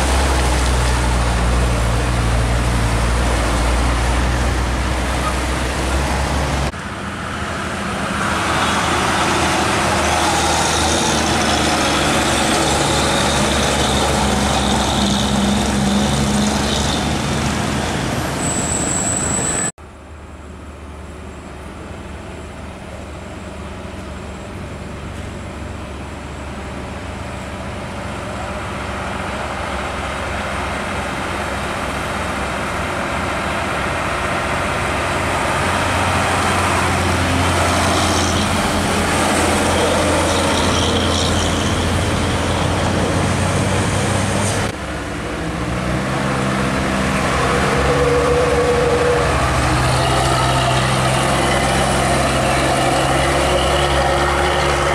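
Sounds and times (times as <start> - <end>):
diesel truck engine passing: 0.0 - 19.7, 24.5 - 54.9.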